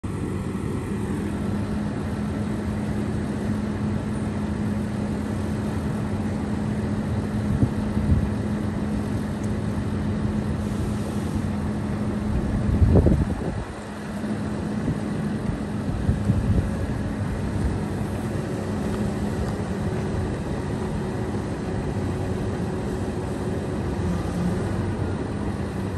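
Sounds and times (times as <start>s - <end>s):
truck engine humming: 0.0s - 25.9s.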